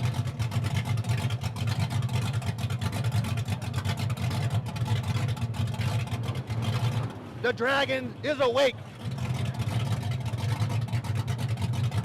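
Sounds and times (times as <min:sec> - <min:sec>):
engine running with loud exhaust: 0:00.0 - 0:07.7, 0:08.7 - 0:12.0.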